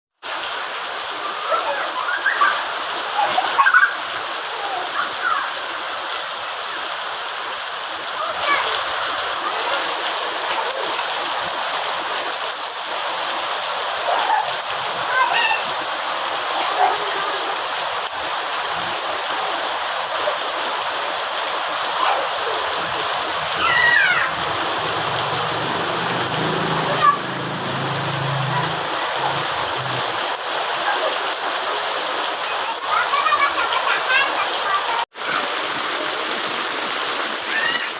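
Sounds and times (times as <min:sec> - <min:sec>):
rain pouring: 0:00.2 - 0:37.9.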